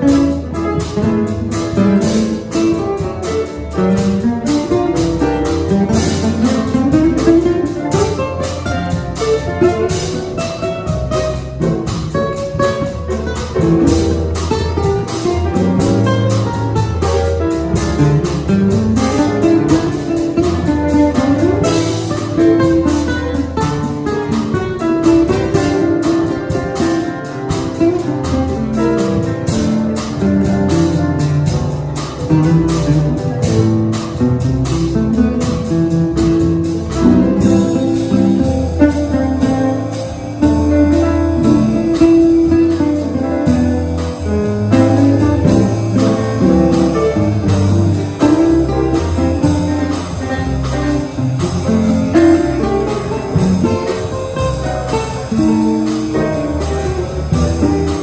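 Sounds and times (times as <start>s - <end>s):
guitar: 0.0s - 58.0s
jazz band playing bossa nova: 0.0s - 58.0s
ticking drums: 0.0s - 58.0s
walking bass line: 0.0s - 58.0s.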